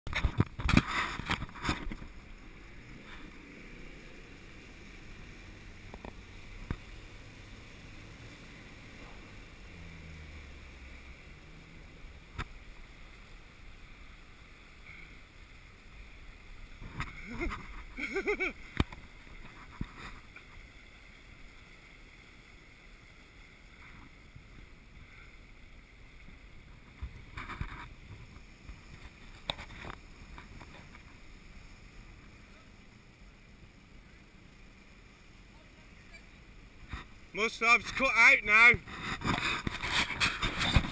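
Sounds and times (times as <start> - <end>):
water rushing and splashing: 0.1 - 40.9
low engine hum: 0.2 - 38.0.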